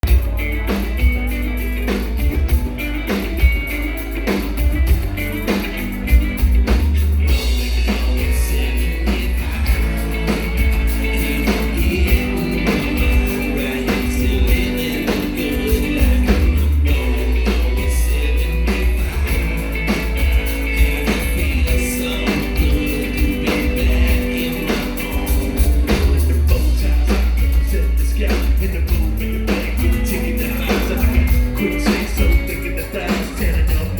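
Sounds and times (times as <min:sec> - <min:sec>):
booming bass: 0:00.0 - 0:33.9
drum beat: 0:00.0 - 0:33.9
live rock band playing: 0:00.0 - 0:33.9.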